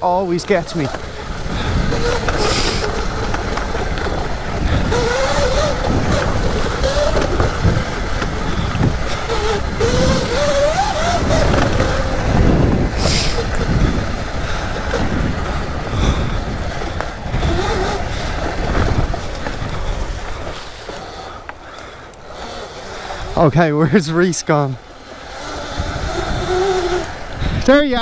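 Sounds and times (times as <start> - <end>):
electric motor whining: 0.0 - 28.0
ground rumble: 0.0 - 28.0
wind on microphone: 0.0 - 28.0.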